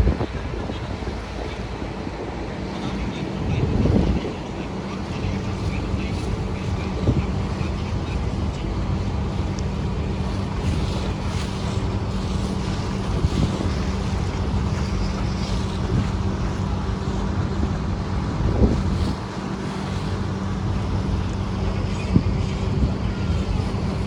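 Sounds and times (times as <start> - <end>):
ferry engine droning: 0.0 - 24.0
water rushing past hull: 0.0 - 24.0
wind buffeting microphone: 0.0 - 24.0.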